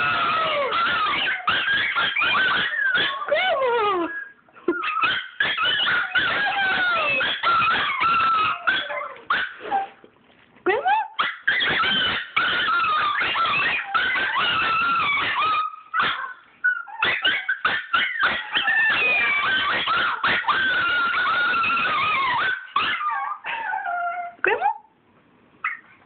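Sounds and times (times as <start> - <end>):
small dogs whining and yelping: 0.0 - 10.1, 10.7 - 24.9, 25.6 - 26.0.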